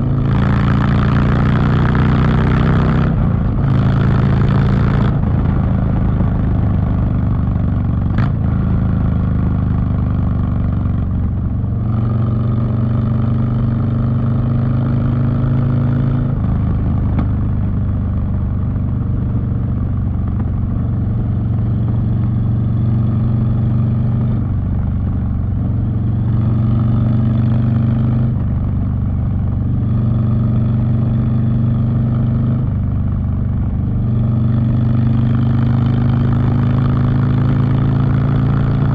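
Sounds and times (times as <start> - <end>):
motorcycle engine riding: 0.0 - 38.9.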